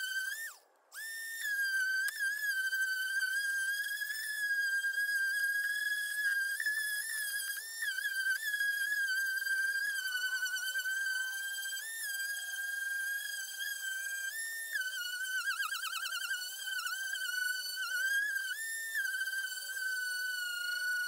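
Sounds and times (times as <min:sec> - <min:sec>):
electric sander whining: 0:00.0 - 0:21.0.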